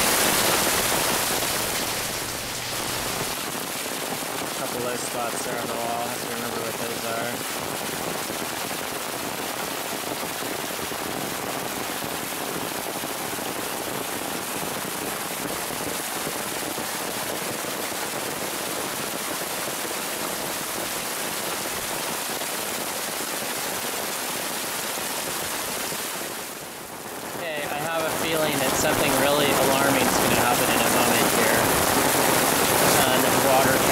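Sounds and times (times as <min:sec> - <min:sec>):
heavy rain on pavement: 0:00.0 - 0:33.9
runoff water gushing: 0:00.0 - 0:33.9.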